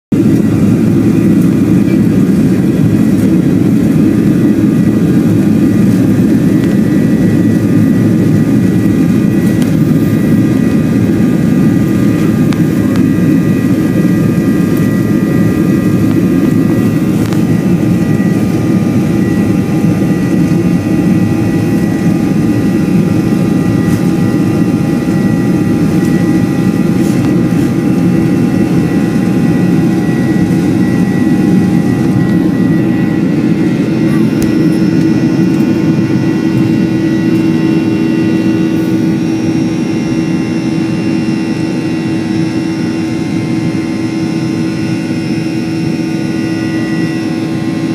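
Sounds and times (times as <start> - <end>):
jet engines rumbling: 0.1 - 47.9
thin engine whine: 0.2 - 47.9.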